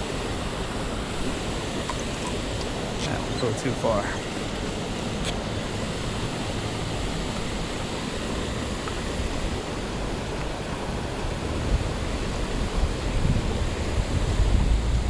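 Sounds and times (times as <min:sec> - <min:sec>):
water rushing over spillway: 0:00.0 - 0:15.0.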